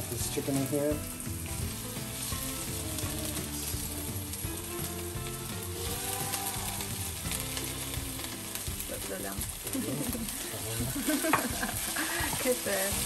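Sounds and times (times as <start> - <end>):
background music: 0.0 - 13.0
food sizzling in a frying pan: 0.0 - 13.0.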